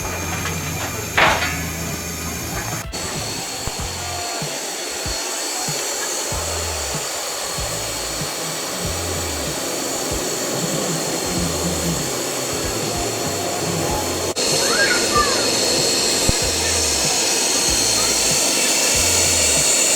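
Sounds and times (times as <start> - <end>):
music: 0.0 - 19.9
steady hiss: 0.0 - 19.9.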